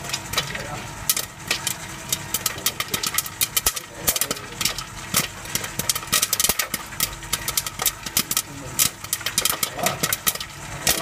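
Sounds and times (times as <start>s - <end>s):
machine humming: 0.0s - 11.0s
popcorn kernels popping: 0.0s - 11.0s.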